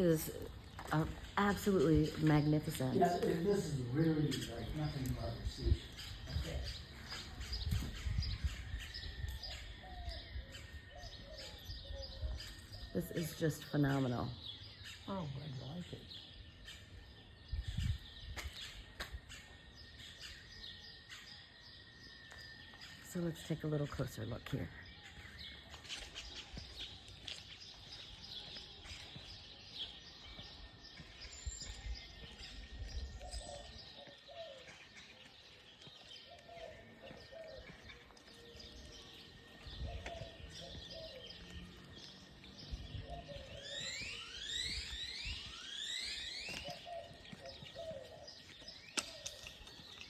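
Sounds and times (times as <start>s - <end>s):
birds chirping and calling: 0.0s - 50.0s.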